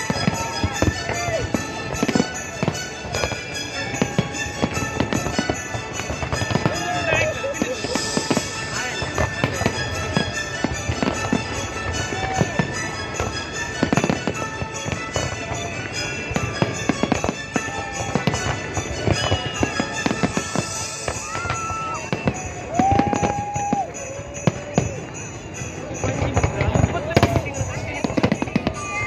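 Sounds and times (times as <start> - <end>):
fireworks bangs and crackling: 0.0 - 29.0
music playing: 0.0 - 29.0.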